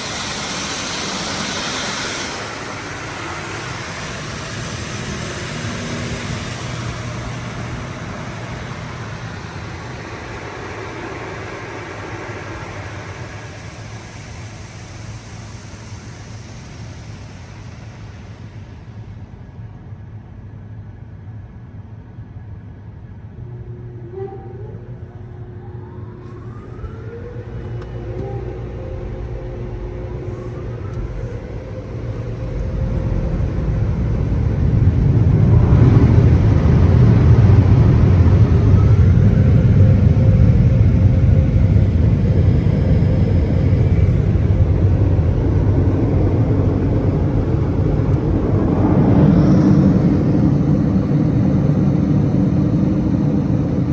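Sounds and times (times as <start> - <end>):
car wash dryer blowers roaring: 0.0 - 53.9.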